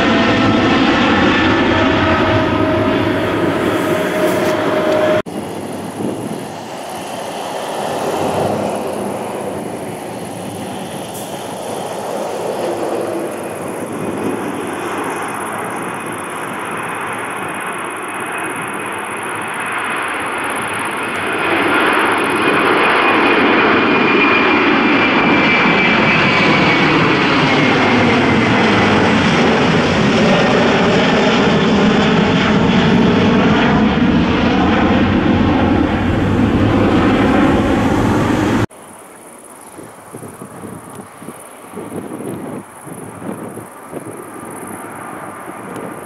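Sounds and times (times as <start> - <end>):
airliner engines whining: 0.0 - 46.0.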